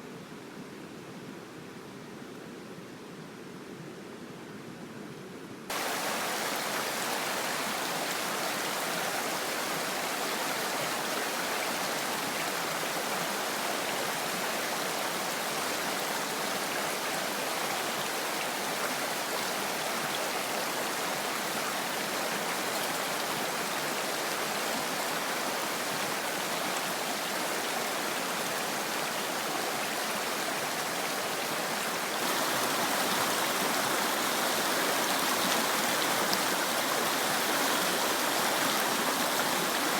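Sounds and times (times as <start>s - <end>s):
stream flowing: 5.7s - 39.9s.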